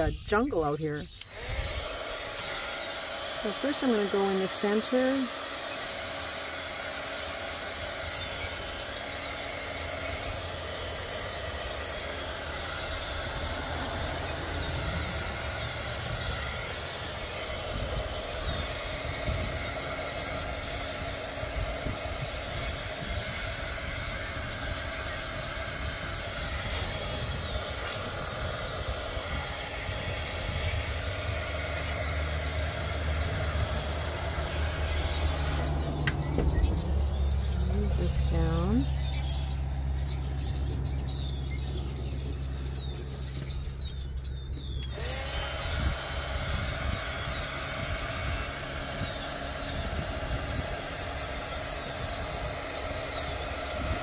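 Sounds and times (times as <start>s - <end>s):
heat gun fan blowing: 0.0s - 54.0s.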